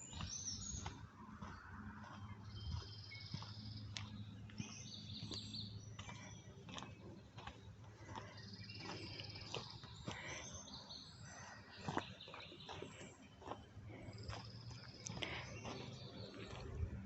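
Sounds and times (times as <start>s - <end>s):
footsteps on trail: 0.0s - 17.0s
small birds trilling: 0.0s - 17.0s
steady low hum: 0.0s - 17.0s.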